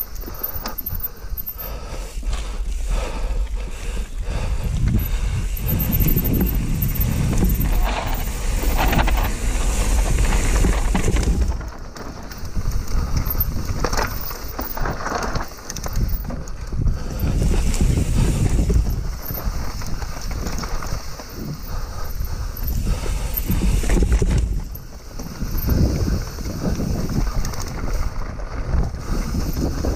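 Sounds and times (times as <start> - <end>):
bike knocking and rattling: 0.0 - 29.9
bike tyre noise: 0.0 - 29.9
wind buffeting microphone: 0.9 - 29.9.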